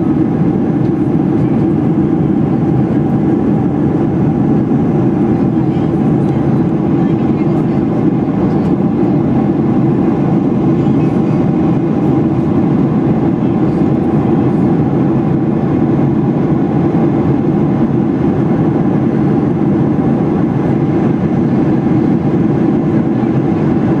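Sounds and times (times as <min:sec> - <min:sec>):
jet engines drone in cabin: 0:00.0 - 0:24.0.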